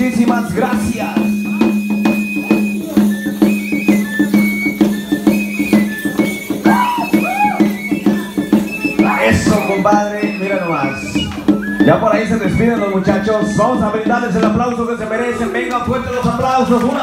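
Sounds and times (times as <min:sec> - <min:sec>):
drum beat: 0:00.0 - 0:17.0.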